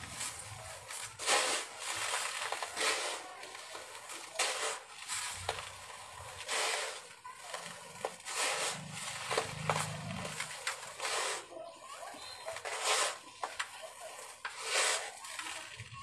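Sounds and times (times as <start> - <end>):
concrete mix pouring into bucket: 0.0 - 11.6, 12.4 - 16.0.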